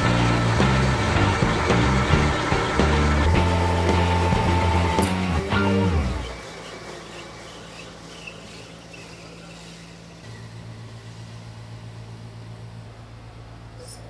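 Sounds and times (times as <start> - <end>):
metal lathe humming: 0.0 - 13.6.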